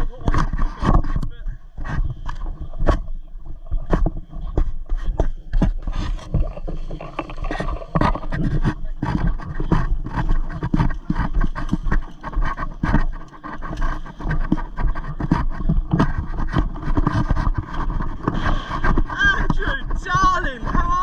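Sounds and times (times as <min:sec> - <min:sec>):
irregular scraping and knocking: 0:00.0 - 0:21.0.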